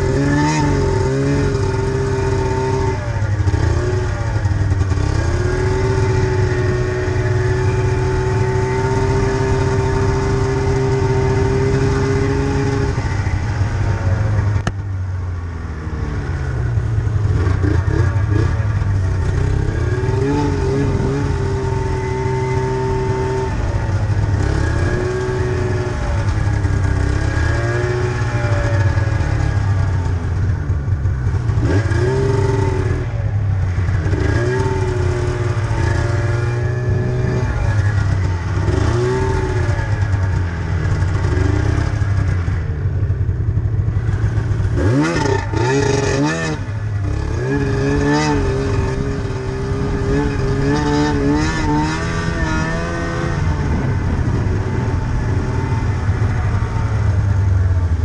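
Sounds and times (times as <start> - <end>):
snowmobile engine revving: 0.0 - 14.7, 17.2 - 30.4, 31.4 - 42.6, 44.0 - 58.0
low track rumble: 0.0 - 58.0.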